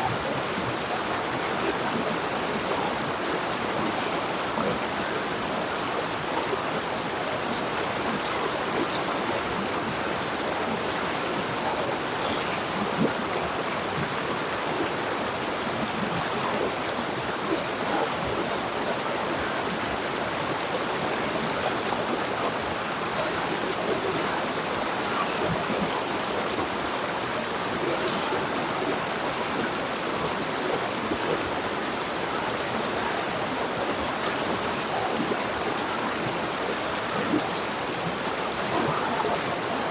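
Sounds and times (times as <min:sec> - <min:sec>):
river rushing over rocks: 0:00.0 - 0:39.9
water splashes and gurgles: 0:00.0 - 0:39.9.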